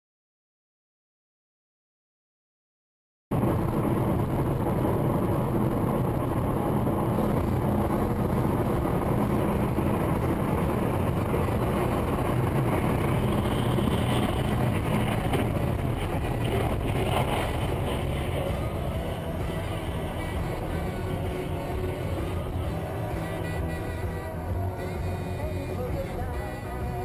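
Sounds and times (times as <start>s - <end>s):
car engine and tyre noise: 3.3s - 27.0s.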